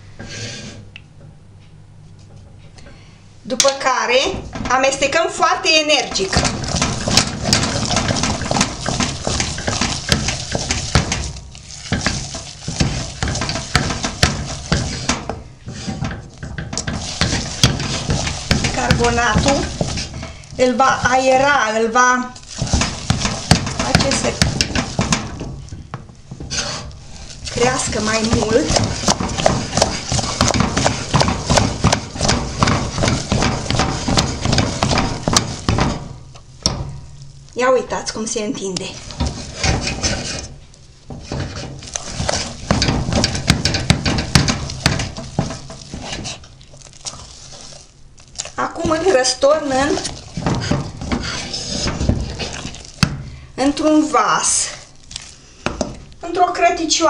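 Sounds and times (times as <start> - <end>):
wooden spoon beating thick paste: 4.5 - 56.8.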